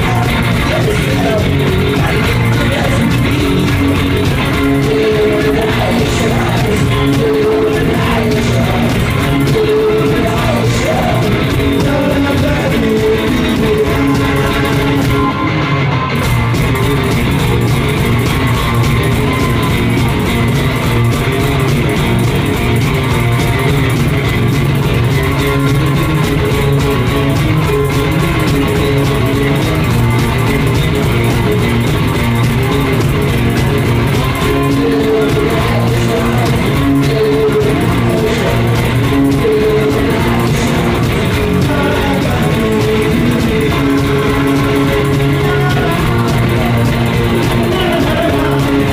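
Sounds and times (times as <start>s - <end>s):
live garage-rock guitars: 0.0s - 48.9s.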